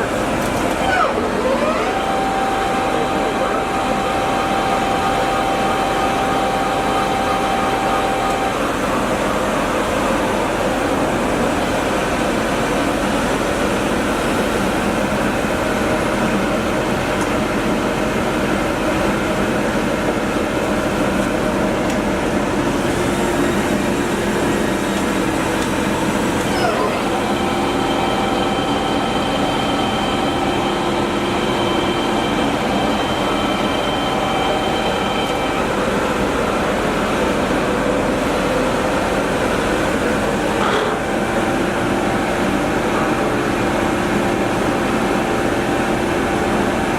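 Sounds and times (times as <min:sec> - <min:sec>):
lathe mechanical whir: 0:00.0 - 0:46.9.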